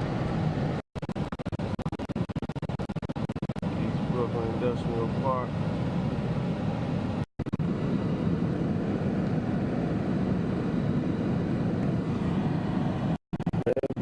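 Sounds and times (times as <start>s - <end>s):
road and engine noise inside car: 0.0s - 14.0s.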